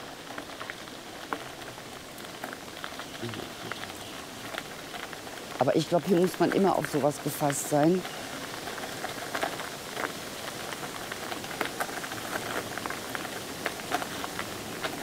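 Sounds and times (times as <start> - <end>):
bicycle tyres on rough track: 0.0 - 15.0.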